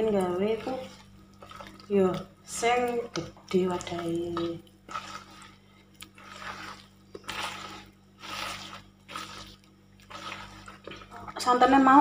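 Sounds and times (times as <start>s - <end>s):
hand squelching batter: 0.0s - 11.6s.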